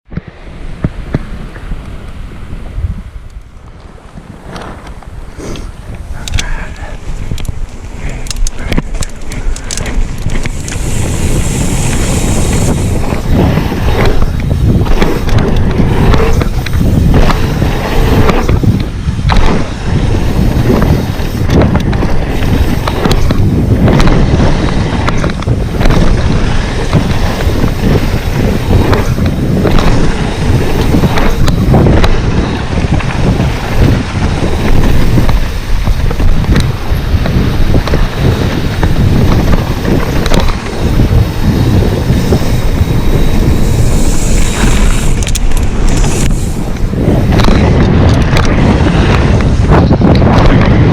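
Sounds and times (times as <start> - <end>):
wind buffeting microphone: 0.1 - 50.9
rumbling ride noise: 0.6 - 50.9.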